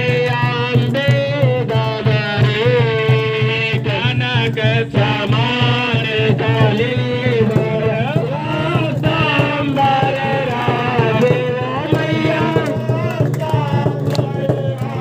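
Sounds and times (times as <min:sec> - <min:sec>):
people clapping along: 0:00.0 - 0:15.0
person singing devotional melody: 0:00.0 - 0:15.0
tabla-like drumming: 0:00.0 - 0:15.0.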